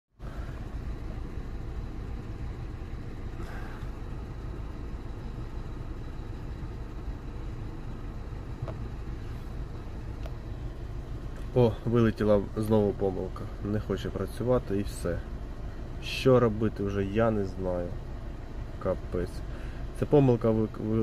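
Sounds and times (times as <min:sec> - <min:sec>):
car engine idling roughly: 0:00.2 - 0:21.0.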